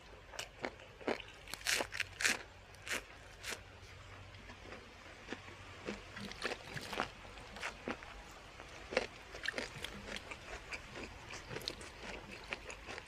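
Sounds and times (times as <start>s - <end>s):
chewing crunchy food: 0.3s - 13.0s.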